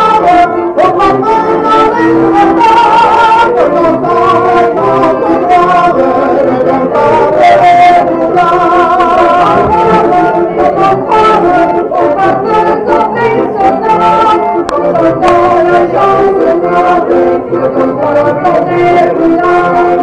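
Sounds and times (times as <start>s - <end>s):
barrel organ playing a tune: 0.0s - 20.0s
person singing: 0.0s - 20.0s.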